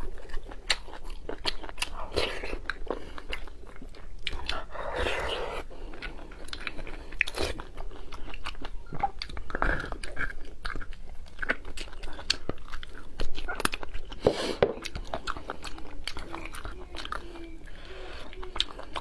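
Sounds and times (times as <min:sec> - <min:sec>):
chewing and sucking marrow: 0:00.0 - 0:19.0.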